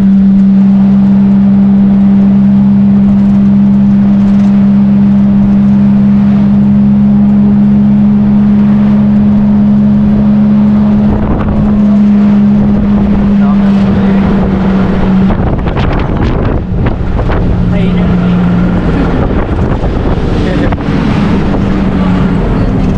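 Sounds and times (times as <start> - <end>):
boat engine droning: 0.0 - 22.9.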